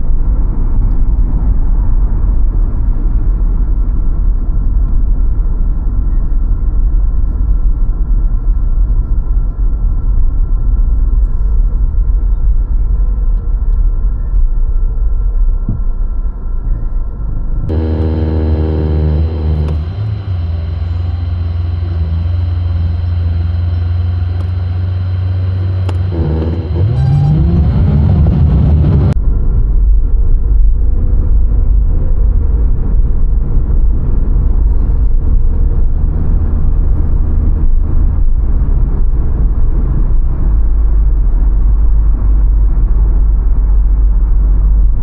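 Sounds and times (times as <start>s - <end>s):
car engine and road rumble: 0.0s - 45.0s.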